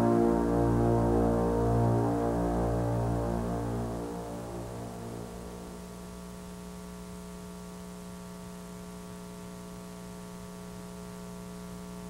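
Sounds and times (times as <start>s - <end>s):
electrical mains hum: 0.0s - 12.0s
faint hiss: 0.0s - 12.0s.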